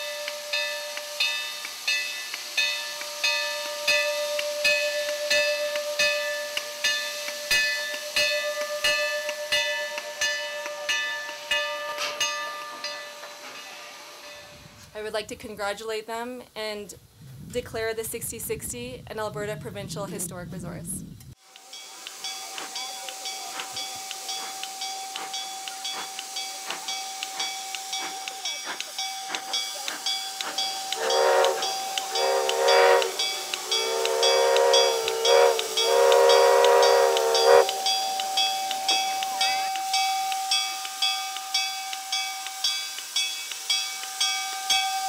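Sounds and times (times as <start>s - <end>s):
steam whistle blasts: 0.0s - 14.8s, 21.4s - 45.0s
hissing steam: 0.0s - 45.0s
steam locomotive exhaust chuffs: 0.0s - 45.0s.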